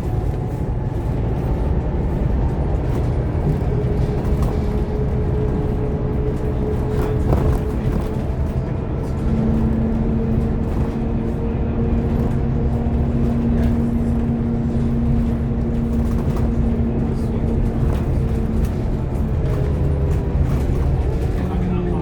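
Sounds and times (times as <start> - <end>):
bus diesel engine rumble: 0.0 - 22.0.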